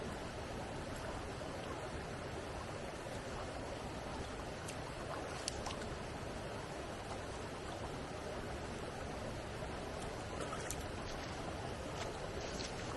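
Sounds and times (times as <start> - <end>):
stream water rushing: 0.0 - 12.9.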